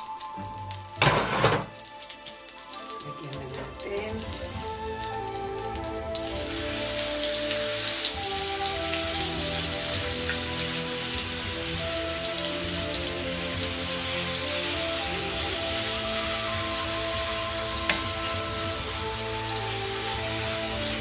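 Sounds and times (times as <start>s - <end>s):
background music with held notes: 0.0s - 21.0s
hot oil bubbling and crackling: 0.0s - 21.0s
meat sizzling in oil: 0.0s - 21.0s.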